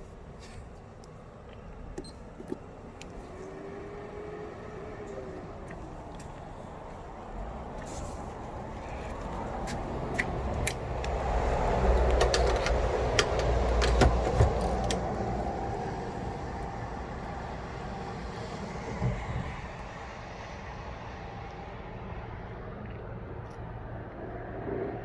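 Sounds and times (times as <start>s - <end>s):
vehicle passing by: 3.1s - 25.0s.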